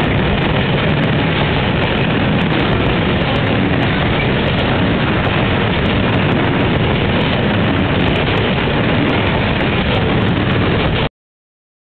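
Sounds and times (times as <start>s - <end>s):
train wheels rumbling on rails: 0.0s - 11.1s.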